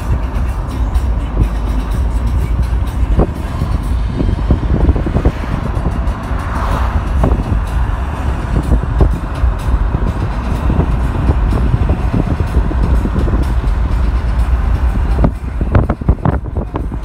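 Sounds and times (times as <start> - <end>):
car road and wind rumble: 0.0 - 17.0.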